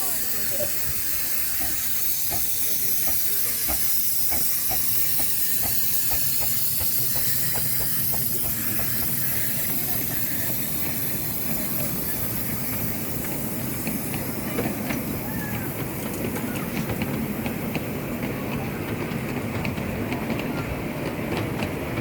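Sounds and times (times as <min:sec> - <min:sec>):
steam engine regular beat: 0:00.0 - 0:22.0
steam locomotive hissing: 0:00.0 - 0:22.0.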